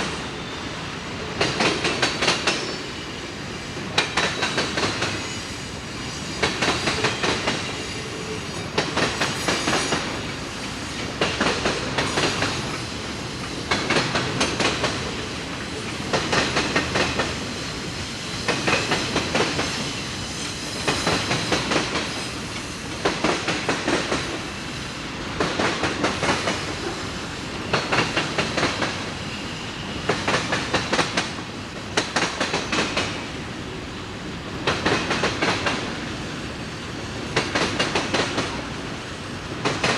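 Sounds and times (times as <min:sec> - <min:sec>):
train wheels clacking over rail joints: 0:01.3 - 0:02.9, 0:03.8 - 0:24.6, 0:25.2 - 0:29.1, 0:30.0 - 0:33.3, 0:34.5 - 0:36.2, 0:37.1 - 0:38.8, 0:39.5 - 0:39.9.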